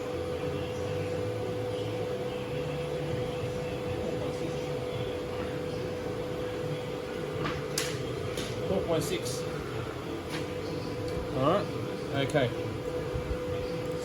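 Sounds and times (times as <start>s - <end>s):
machine hum with whine: 0.0s - 14.0s.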